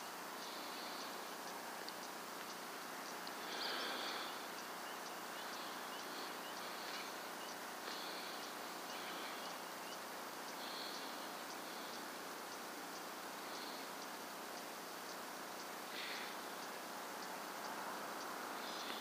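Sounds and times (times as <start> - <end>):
high-pitched buzzing insect calls: 0.0 - 19.0
steady hiss: 0.0 - 19.0.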